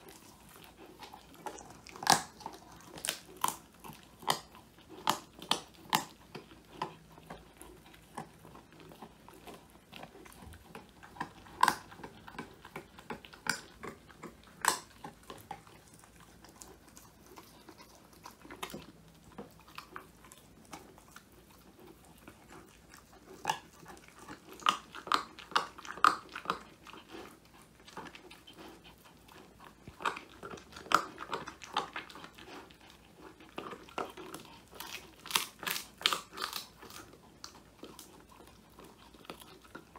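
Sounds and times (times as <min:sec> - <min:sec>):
puppy crunching bones: 0:00.0 - 0:39.9.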